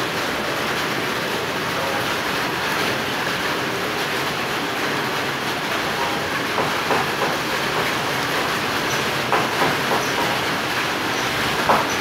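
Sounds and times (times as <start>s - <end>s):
light rain falling: 0.0s - 12.0s
rain ticks: 2.0s - 12.0s.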